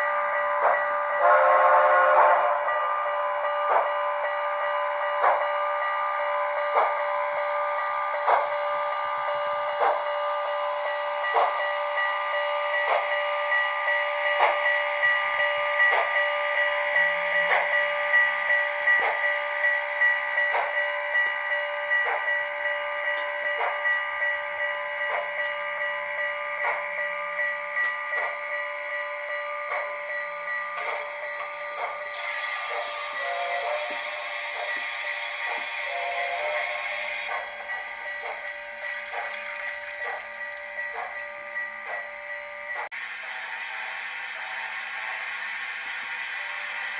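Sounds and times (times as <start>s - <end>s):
model steam locomotive chuffs: 0.0s - 46.9s
steady high-pitched tone: 0.0s - 46.9s.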